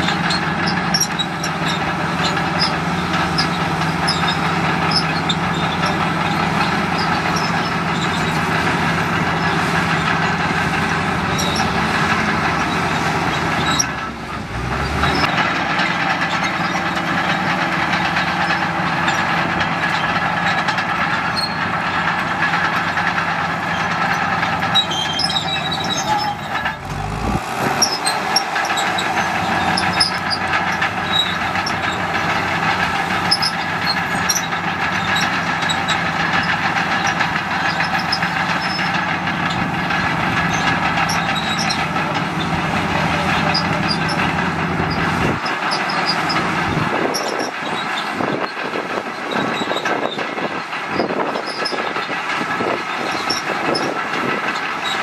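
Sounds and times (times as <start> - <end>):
bulldozer diesel engine: 0.0 - 55.0
clanks and clicks: 0.0 - 55.0.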